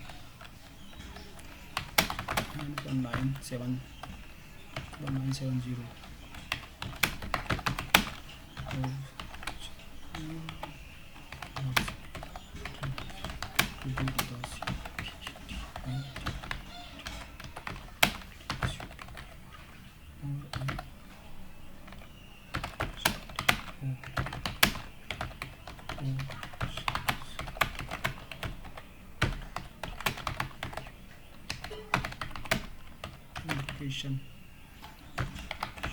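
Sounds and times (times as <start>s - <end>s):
typing on a keyboard: 0.0s - 19.8s, 20.5s - 20.9s, 21.8s - 33.9s, 34.8s - 35.9s.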